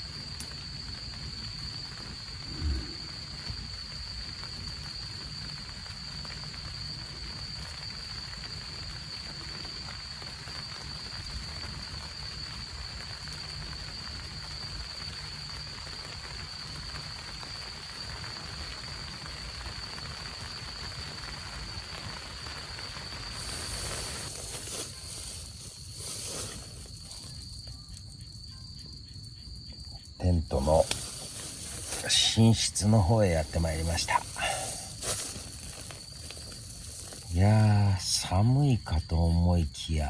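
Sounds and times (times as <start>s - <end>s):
steady rainfall: 0.2s - 27.3s, 30.2s - 40.0s.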